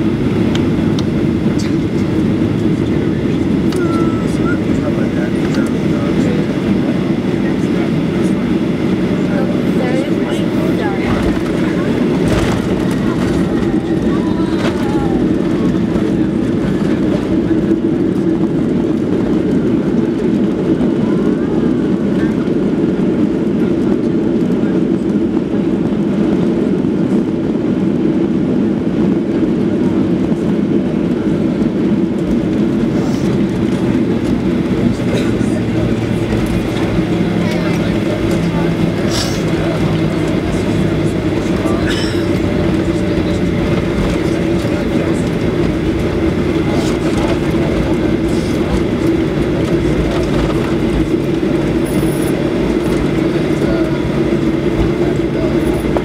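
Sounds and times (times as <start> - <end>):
airplane cabin rumble on runway: 0.0 - 56.0
jet engine noise: 0.0 - 56.0.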